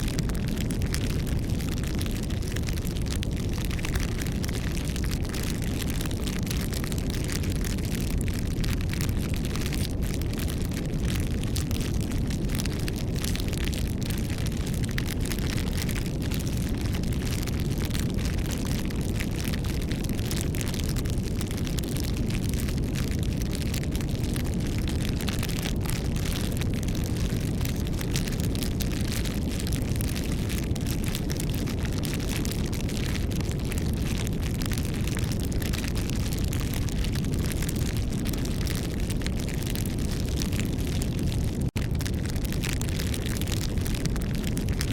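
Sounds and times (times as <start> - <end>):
bonfire burning with crackles: 0.0 - 44.9.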